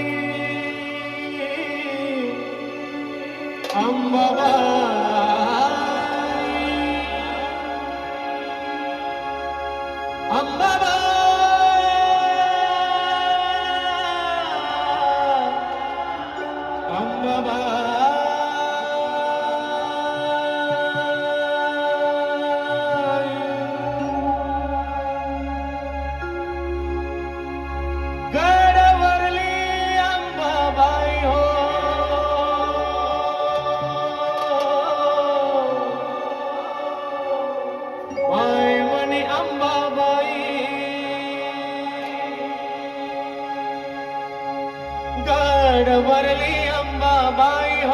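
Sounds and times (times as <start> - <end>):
person singing: 0.0 - 47.9
sustained synth chord: 0.0 - 47.9.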